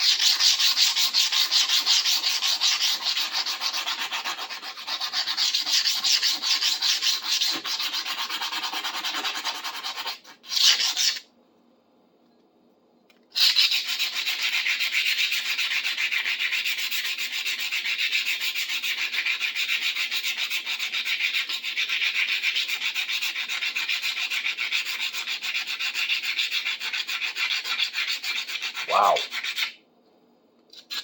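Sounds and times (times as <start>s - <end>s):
sandpaper scratching on metal: 0.0s - 11.2s, 13.4s - 29.7s.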